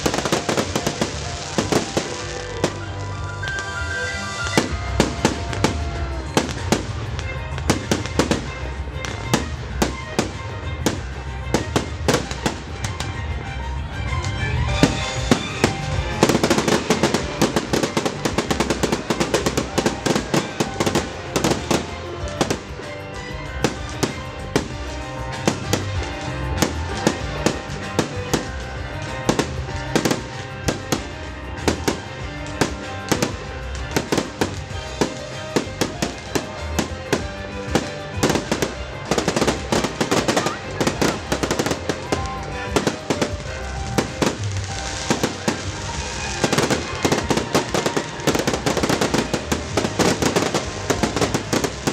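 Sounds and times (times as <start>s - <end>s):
fireworks bangs and crackles: 0.0s - 51.9s
music playing: 0.0s - 51.9s.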